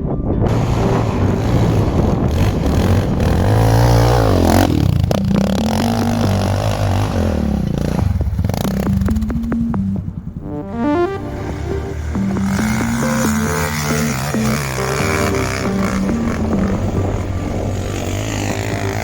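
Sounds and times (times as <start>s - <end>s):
off-road vehicle engine revving: 0.5s - 10.3s, 11.2s - 19.0s.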